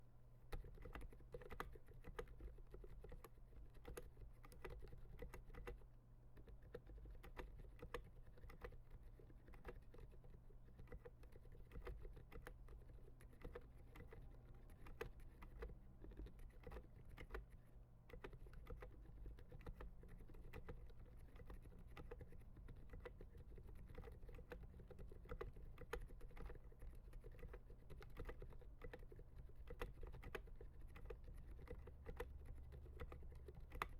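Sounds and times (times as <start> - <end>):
faint low hum: 0.0 - 33.9
muted keyboard typing: 0.5 - 5.8, 6.4 - 33.9.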